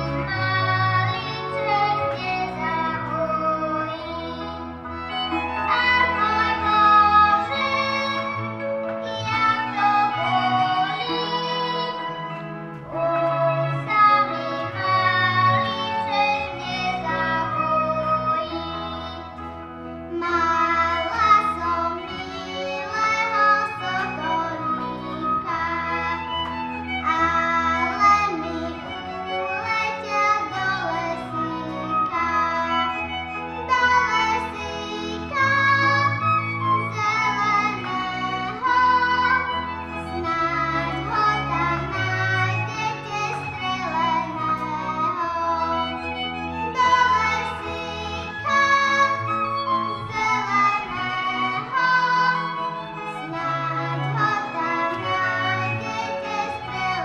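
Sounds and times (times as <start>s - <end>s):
folk song singing: 0.0s - 57.0s
instrumental accompaniment: 0.0s - 57.0s.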